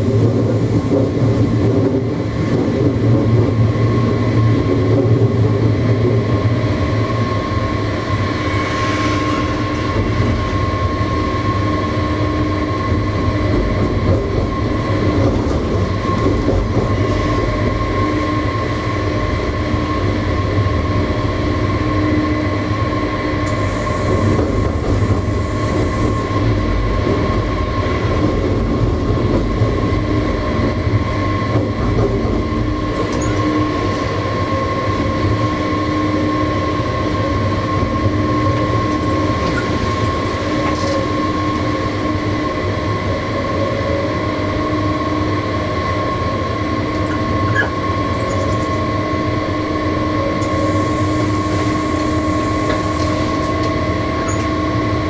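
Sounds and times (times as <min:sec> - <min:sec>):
rail and wheel rumble: 0:00.0 - 0:55.0
steady train whine: 0:00.0 - 0:55.0.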